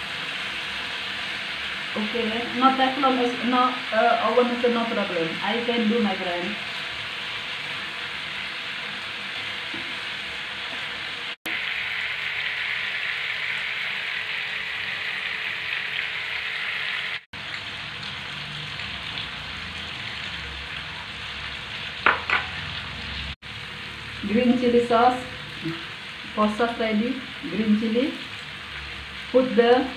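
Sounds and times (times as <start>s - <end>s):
chicken sizzling in a pan: 0.0s - 29.9s.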